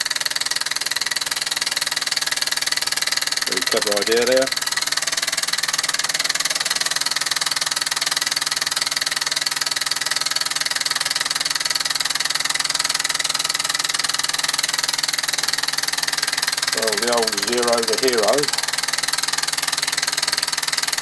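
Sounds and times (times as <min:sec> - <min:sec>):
toy steam engine running: 0:00.0 - 0:21.0.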